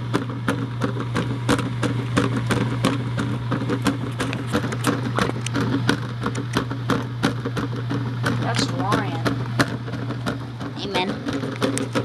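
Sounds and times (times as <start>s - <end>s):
items tumbling against drum: 0.0s - 12.0s
washing machine humming: 0.0s - 12.0s.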